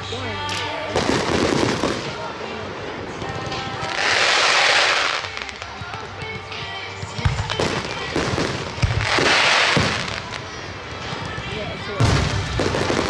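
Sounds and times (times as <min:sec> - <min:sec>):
fireworks crackling hiss: 0:00.0 - 0:13.0
fireworks bangs: 0:00.6 - 0:13.0.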